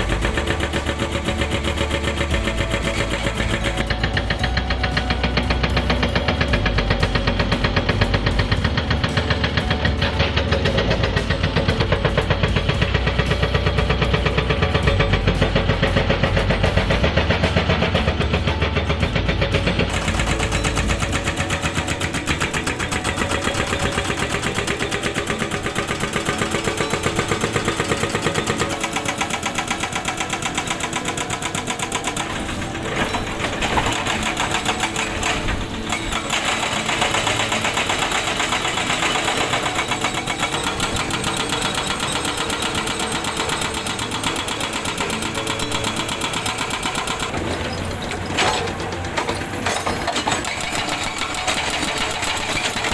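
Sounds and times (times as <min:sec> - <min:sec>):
excavator engine running: 0:00.0 - 0:52.9
hydraulic breaker hammering rock: 0:00.0 - 0:52.9.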